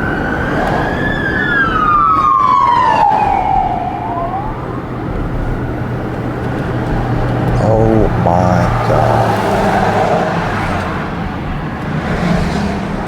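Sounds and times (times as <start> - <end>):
emergency siren wailing: 0.0 - 11.6
low vehicle rumble: 0.1 - 13.0.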